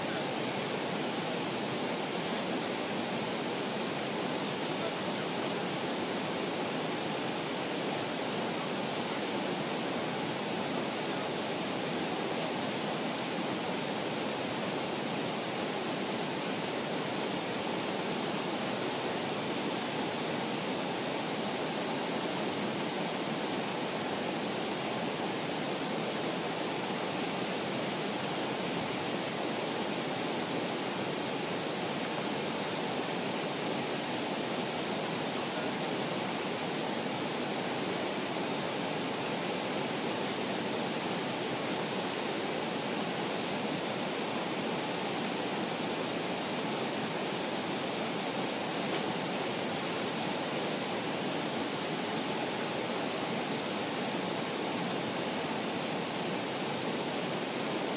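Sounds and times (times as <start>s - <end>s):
waterfall roaring: 0.0s - 57.9s.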